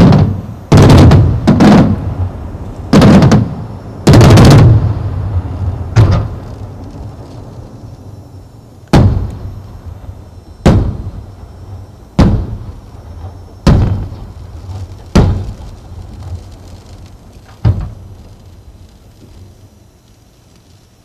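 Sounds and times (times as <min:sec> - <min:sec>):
firework booms with echo: 0:00.0 - 0:07.2, 0:08.9 - 0:18.8.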